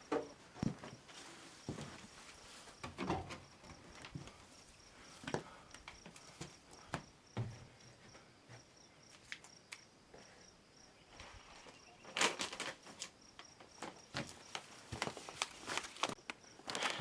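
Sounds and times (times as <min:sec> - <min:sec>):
rustles and knocks of garden work: 0:00.0 - 0:10.4, 0:11.1 - 0:17.0.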